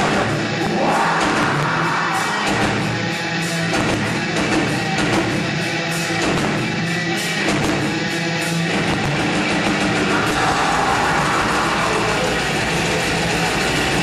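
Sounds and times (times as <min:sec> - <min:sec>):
heavy metal band playing live: 0:00.0 - 0:14.0.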